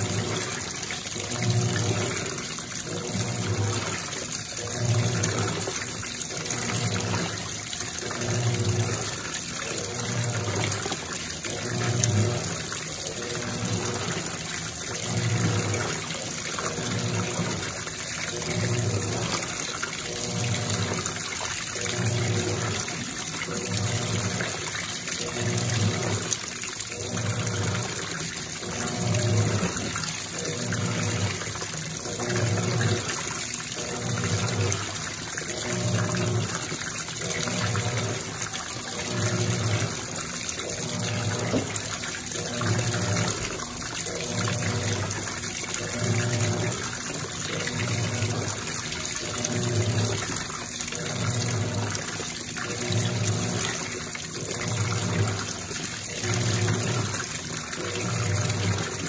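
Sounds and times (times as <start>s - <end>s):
washing machine motor hum: 0.0s - 59.0s
water splashing onto laundry: 0.0s - 59.0s.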